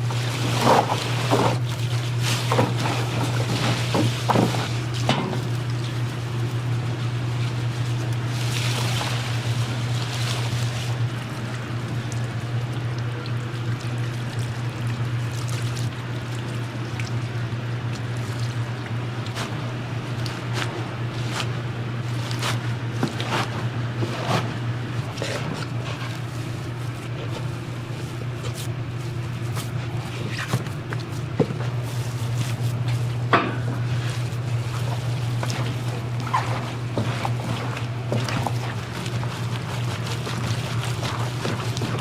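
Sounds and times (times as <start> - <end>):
kitchen equipment hum: 0.0 - 42.0.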